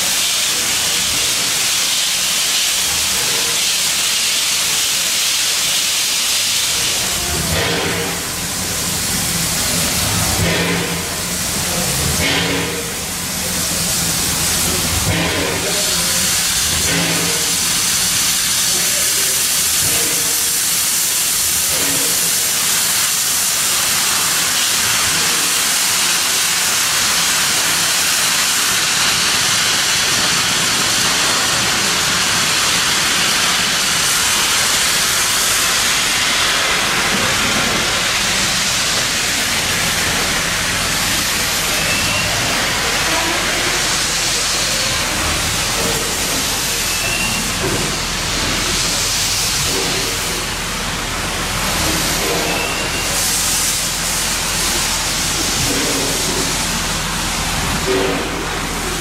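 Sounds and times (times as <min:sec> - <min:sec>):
steam locomotive venting steam: 0:00.0 - 0:59.0.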